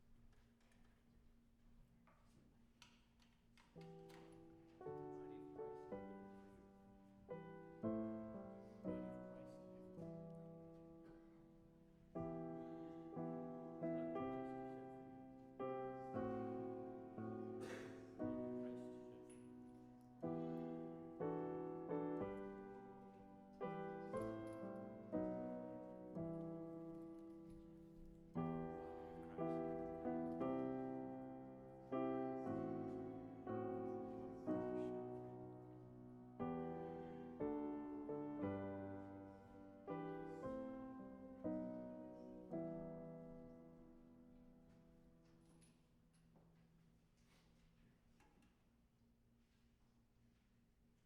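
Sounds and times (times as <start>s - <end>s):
piano playing slow chords: 3.8s - 45.3s.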